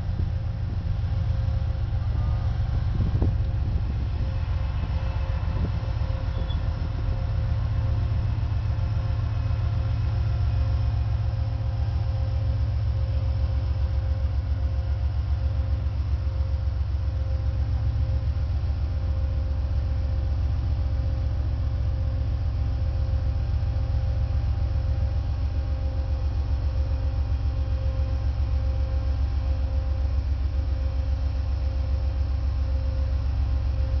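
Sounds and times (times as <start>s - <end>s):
constant hum: 0.0s - 34.0s
diesel locomotives rumbling: 0.0s - 34.0s.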